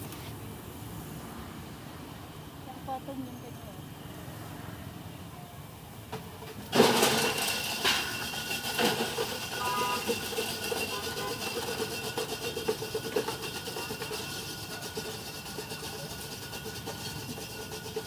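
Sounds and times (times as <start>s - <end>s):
constant hiss: 0.0s - 18.0s.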